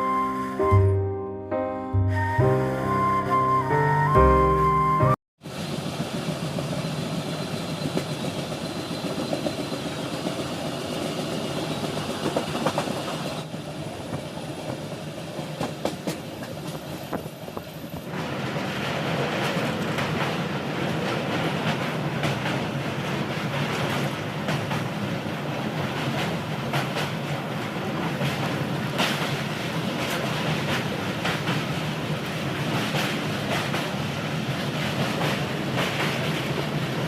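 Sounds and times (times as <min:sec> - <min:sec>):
train running noise: 0:05.4 - 0:37.0.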